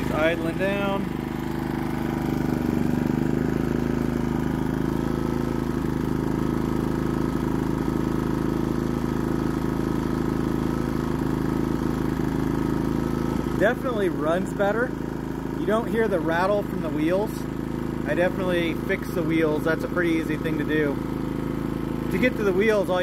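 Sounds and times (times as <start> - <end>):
generator engine idling: 0.0 - 23.0.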